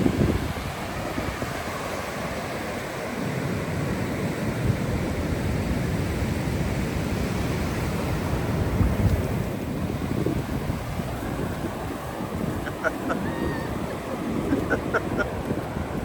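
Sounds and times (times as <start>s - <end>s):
ocean surf washing on beach: 0.0s - 16.0s
wind gusting on microphone: 0.0s - 16.0s.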